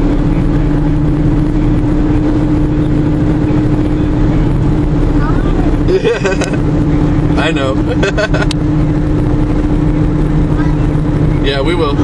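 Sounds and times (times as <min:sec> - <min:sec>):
car engine hum: 0:00.0 - 0:12.0
road and wind noise: 0:00.0 - 0:12.0.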